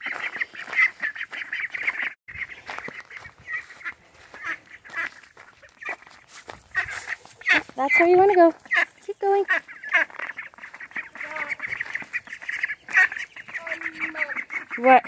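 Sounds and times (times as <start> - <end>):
ducklings quacking: 0.0 - 15.0.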